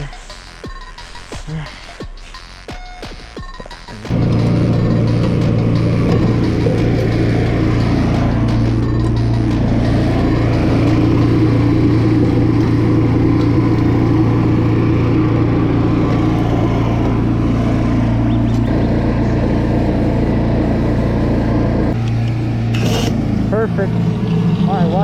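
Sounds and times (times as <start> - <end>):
pressure washer engine running: 4.1 - 25.0.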